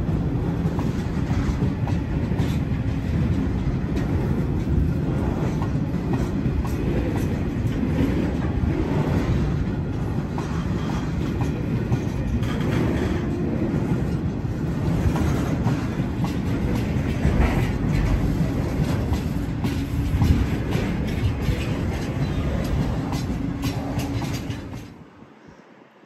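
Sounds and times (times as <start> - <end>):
steel wheels rumbling on rail: 0.0 - 25.6
wheels clicking over rail joints: 0.6 - 25.0.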